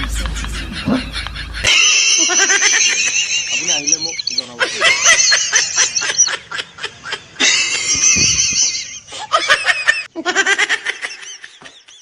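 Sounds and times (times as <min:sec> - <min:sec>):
high-pitched laughter: 0:00.0 - 0:12.0.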